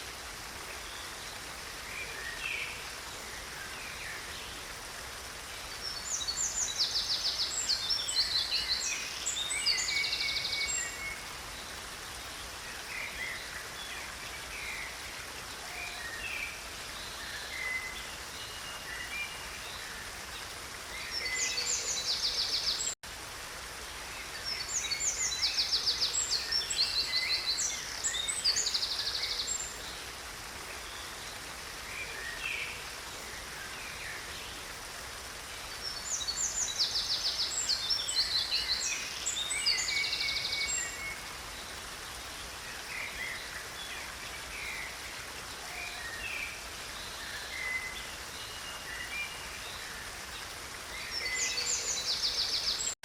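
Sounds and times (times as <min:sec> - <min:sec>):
small stream rushing: 0:00.0 - 0:53.0.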